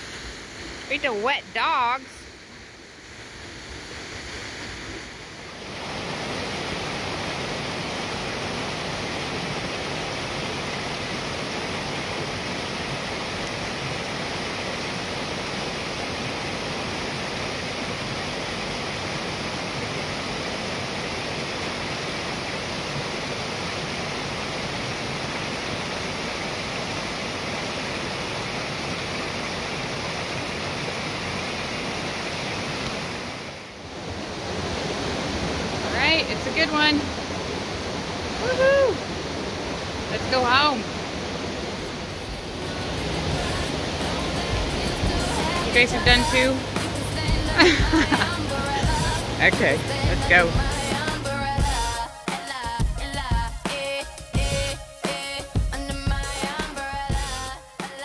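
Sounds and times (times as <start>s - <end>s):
whitewater roaring over boulders: 0.0s - 57.5s.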